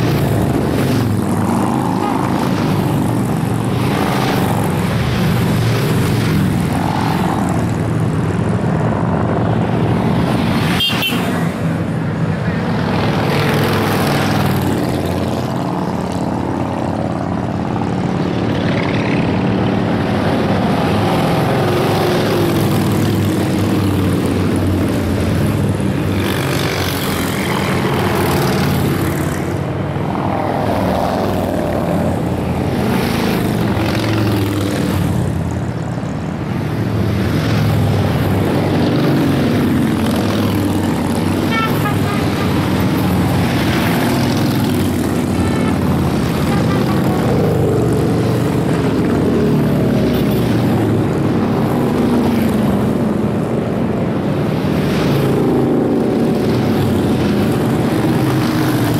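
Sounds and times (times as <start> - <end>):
motorcycles riding past: 0.0 - 58.9.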